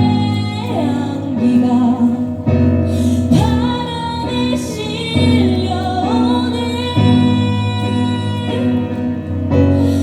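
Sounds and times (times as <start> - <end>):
woman singing pop ballad: 0.0 - 10.0.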